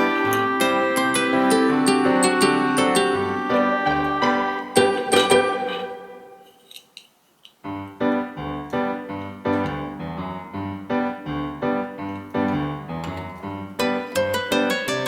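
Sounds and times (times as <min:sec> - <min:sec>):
piano-like keyboard music: 0:00.0 - 0:06.6, 0:07.6 - 0:15.0.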